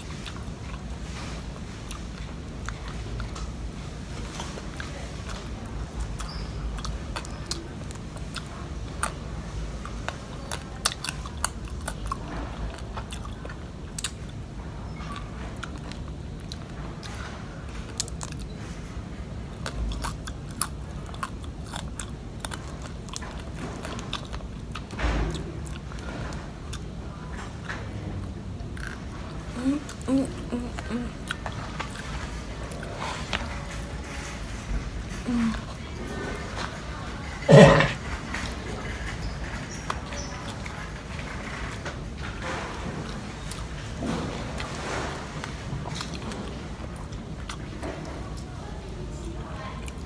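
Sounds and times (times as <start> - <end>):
chewing and crunching fried food: 0.0 - 50.0.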